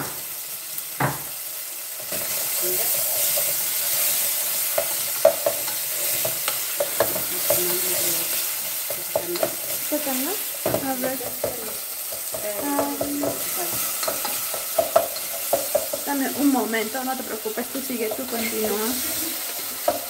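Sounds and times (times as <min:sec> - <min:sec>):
vegetables sizzling in a pot: 0:00.0 - 0:20.0
wooden spoon scraping a pot: 0:02.0 - 0:20.0.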